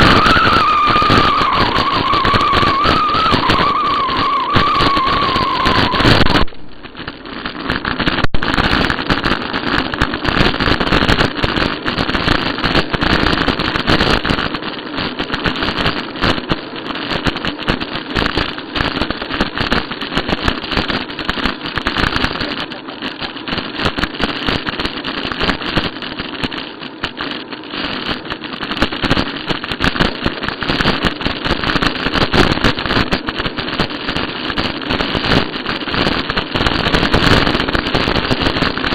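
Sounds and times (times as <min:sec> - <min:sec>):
bicycle tyres rumbling: 0:00.0 - 0:38.9.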